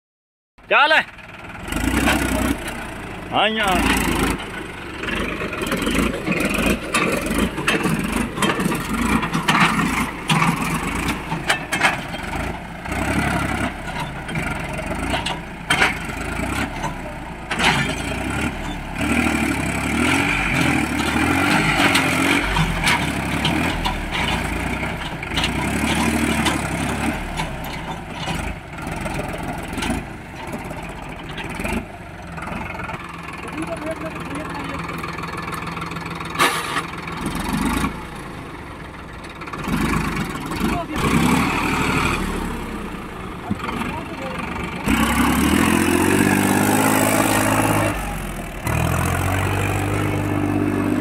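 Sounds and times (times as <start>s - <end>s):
tractor diesel engine under load: 0.6s - 51.0s.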